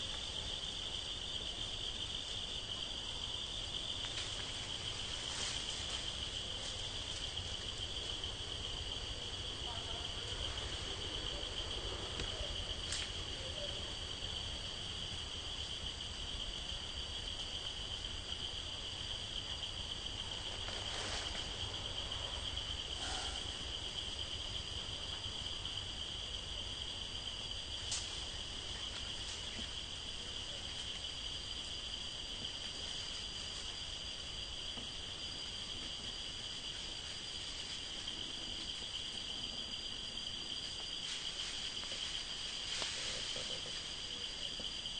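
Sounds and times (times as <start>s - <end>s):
insects chorus: 0.0s - 44.9s.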